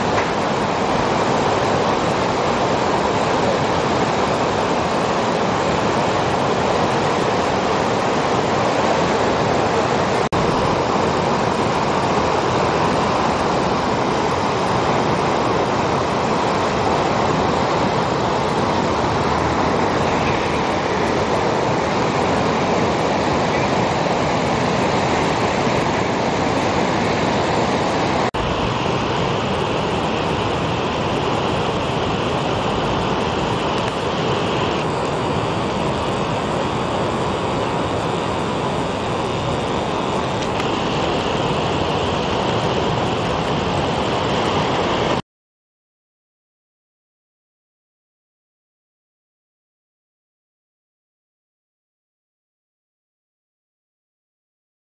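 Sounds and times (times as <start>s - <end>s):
river water rushing over rapids: 0.0s - 45.2s.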